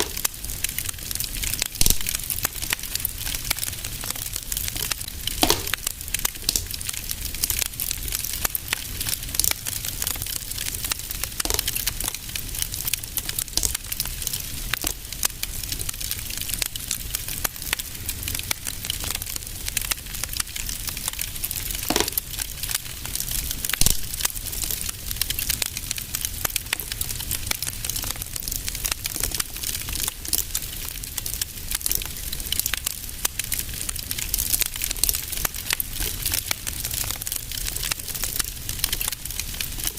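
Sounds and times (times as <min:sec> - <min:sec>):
loud fire pops: 0:00.0 - 0:39.9
low rumble of flames: 0:00.0 - 0:39.9
wood fire crackling: 0:00.0 - 0:39.9.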